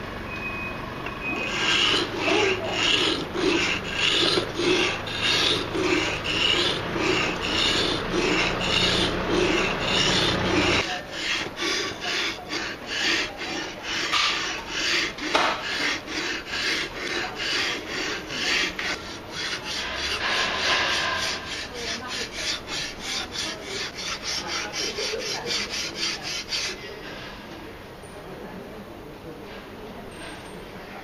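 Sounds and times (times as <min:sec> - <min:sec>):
blade scraping on whetstone: 0:01.2 - 0:27.2.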